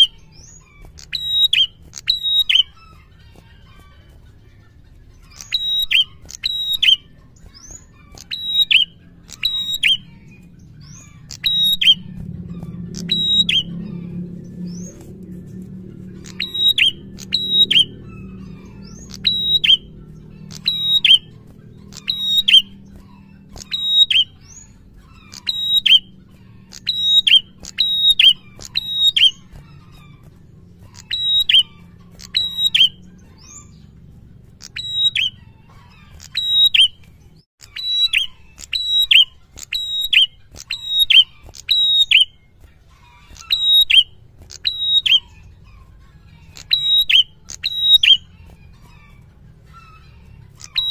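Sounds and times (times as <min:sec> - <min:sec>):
bird singing high sliding notes: 0:00.0 - 0:50.9.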